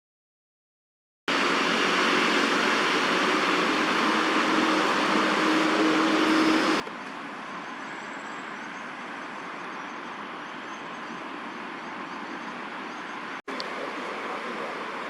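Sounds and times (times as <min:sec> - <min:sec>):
city traffic hum: 0:01.3 - 0:15.0.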